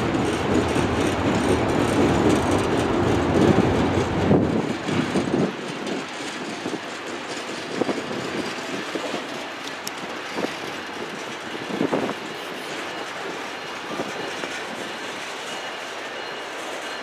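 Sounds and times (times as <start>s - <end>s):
freight train rolling past: 0.0s - 17.0s
wheel clacks over rail joints: 0.0s - 17.0s.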